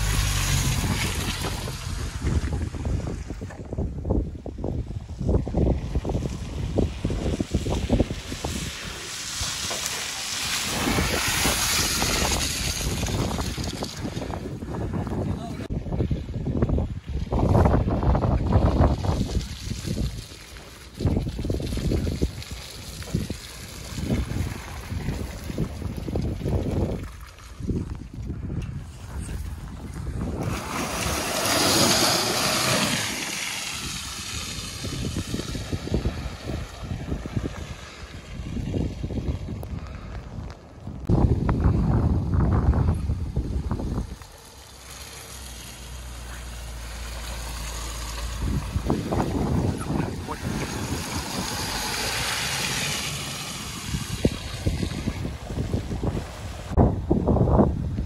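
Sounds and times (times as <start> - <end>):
tyres splashing through mud: 0.0 - 4.0, 4.9 - 42.0, 42.6 - 57.0
wind buffeting microphone: 0.0 - 44.5, 46.0 - 58.0.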